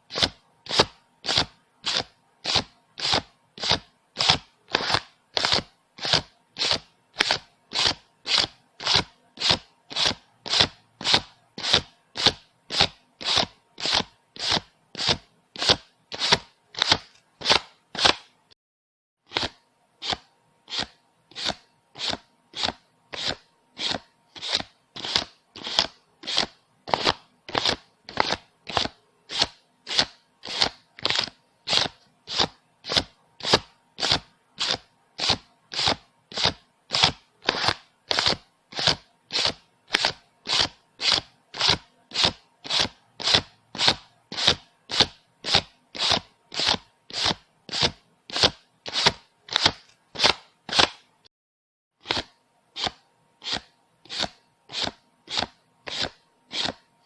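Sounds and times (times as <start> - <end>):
banknotes being counted: 0.1 - 18.3, 19.3 - 51.1, 52.0 - 56.8.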